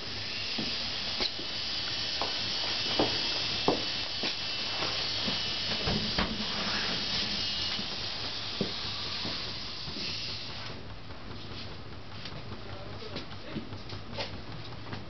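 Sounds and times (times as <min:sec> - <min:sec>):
motor running with hiss and hum: 0:00.0 - 0:15.0.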